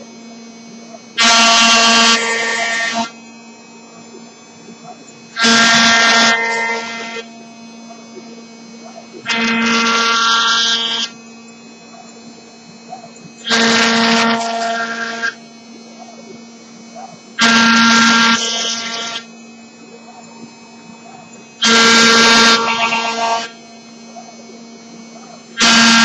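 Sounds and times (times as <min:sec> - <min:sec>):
router bit cutting workpiece: 0:00.0 - 0:26.0
router spindle humming: 0:00.0 - 0:26.0.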